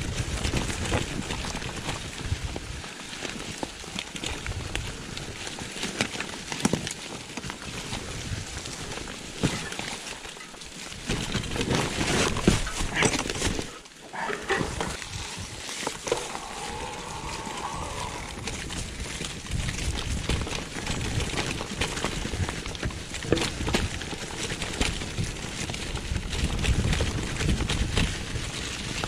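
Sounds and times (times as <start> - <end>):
bike clattering and rattling: 0.0 - 29.0
bike tyres crunching on dirt: 0.0 - 29.0.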